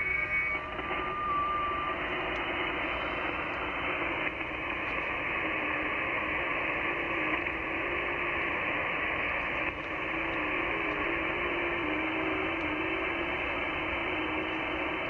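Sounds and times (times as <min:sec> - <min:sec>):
faint whistling data tones: 0:00.0 - 0:15.0
radio band noise hiss: 0:00.0 - 0:15.0.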